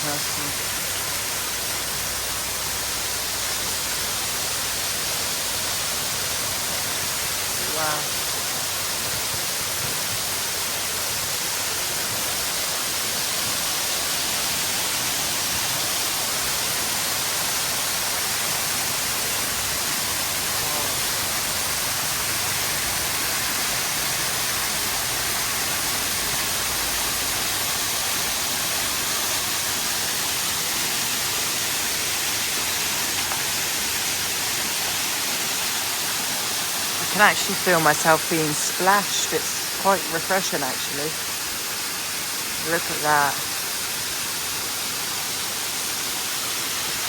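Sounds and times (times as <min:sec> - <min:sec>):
waterfall splashing: 0:00.0 - 0:47.0.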